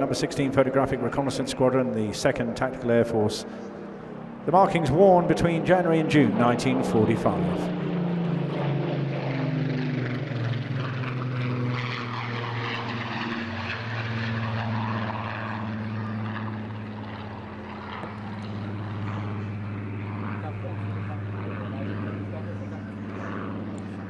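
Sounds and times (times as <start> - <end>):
propeller aircraft flying by: 0.0 - 24.0.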